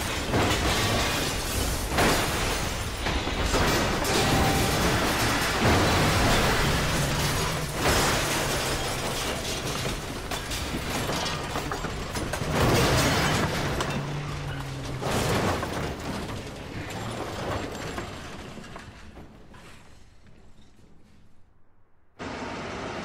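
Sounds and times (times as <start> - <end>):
heavy car crashes: 0.0 - 20.0
car body crumpling and scraping: 0.0 - 21.4.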